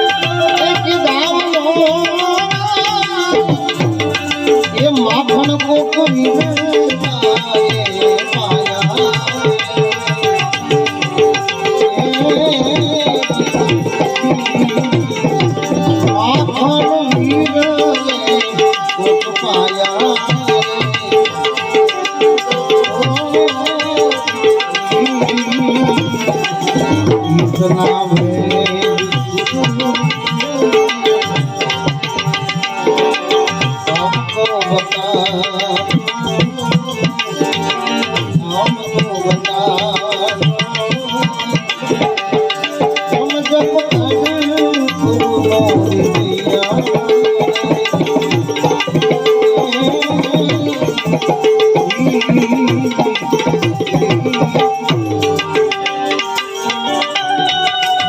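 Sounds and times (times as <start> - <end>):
melodic accompaniment: 0.0 - 58.0
tabla playing: 0.0 - 58.0.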